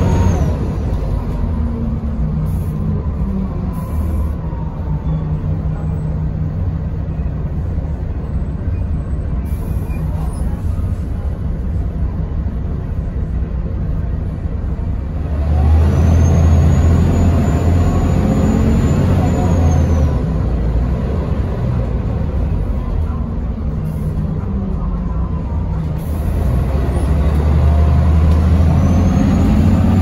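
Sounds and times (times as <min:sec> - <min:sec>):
bus engine rumbling: 0:00.0 - 0:30.0.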